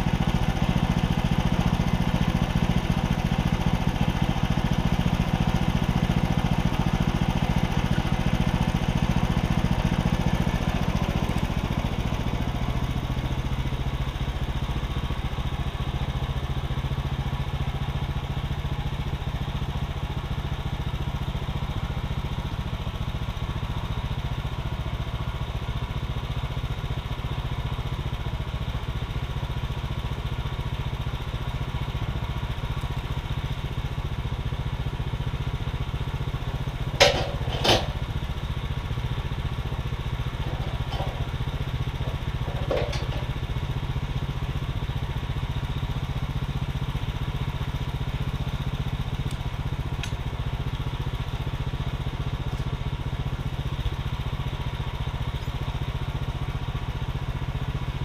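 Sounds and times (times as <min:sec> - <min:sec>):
gas engine idling: 0:00.0 - 0:58.0.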